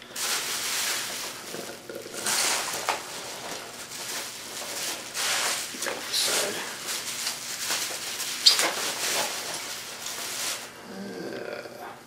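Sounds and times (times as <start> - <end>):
packing peanuts rustling: 0.0 - 11.0.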